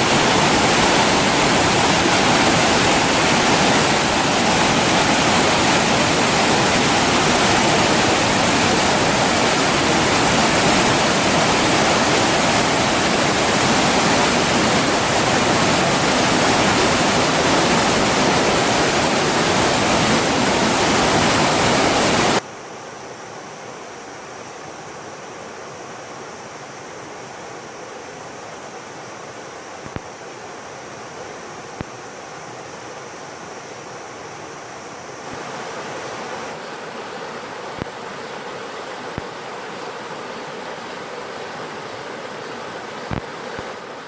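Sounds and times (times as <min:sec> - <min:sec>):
stream rushing over rocks: 0:00.0 - 0:22.4, 0:28.4 - 0:44.0.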